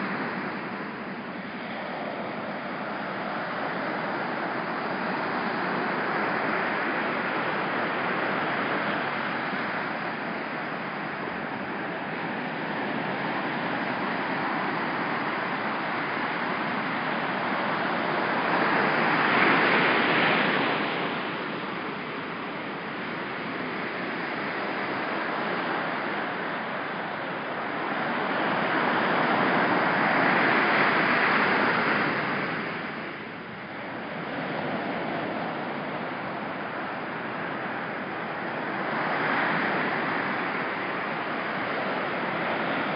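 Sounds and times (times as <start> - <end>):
ocean surf washing onto beach: 0.0 - 42.9.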